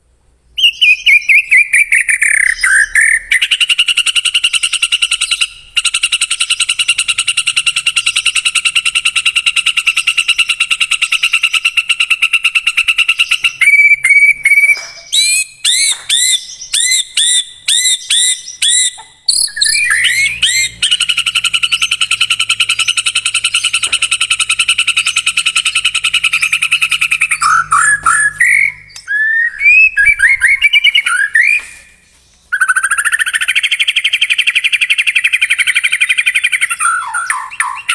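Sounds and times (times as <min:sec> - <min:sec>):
fast rattling bird trills: 0:00.6 - 0:31.6, 0:32.5 - 0:37.9.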